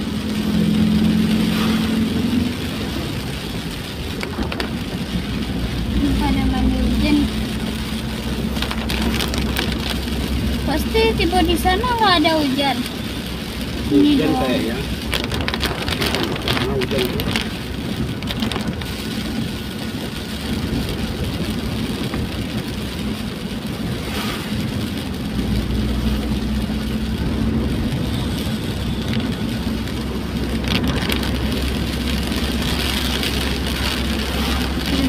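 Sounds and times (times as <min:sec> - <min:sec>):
deep low rumble: 0:00.0 - 0:12.2, 0:12.8 - 0:35.0
rain on windscreen: 0:00.0 - 0:35.0
tyres on wet road: 0:00.0 - 0:35.0.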